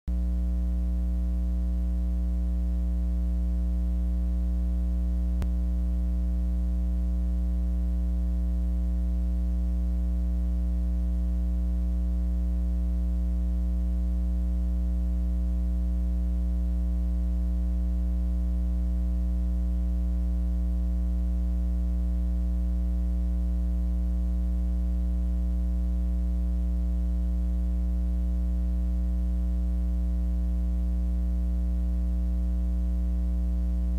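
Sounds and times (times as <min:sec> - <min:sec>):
electrical mains hum: 0:00.1 - 0:33.9.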